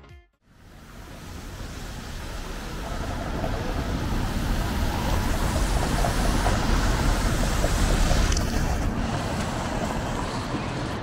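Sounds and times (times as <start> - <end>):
hiss of wet traffic: 0.4 - 11.0.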